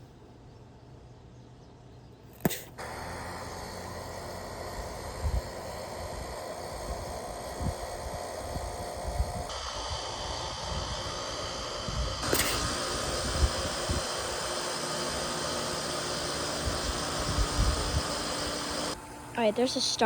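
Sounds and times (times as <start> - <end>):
heat pump whirring and hissing: 2.7 - 20.0
higher-pitched whir: 2.8 - 20.0.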